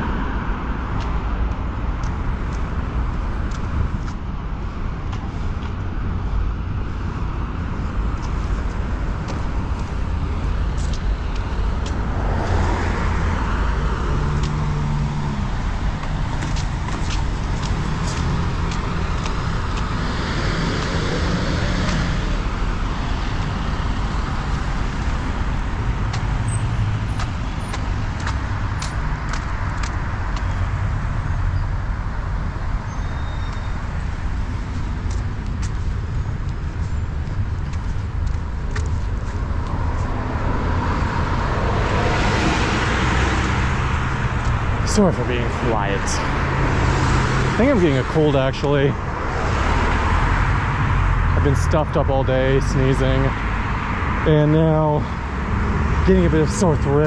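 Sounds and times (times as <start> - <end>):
cars passing close by: 0.0 - 57.0
low traffic rumble: 0.0 - 57.0.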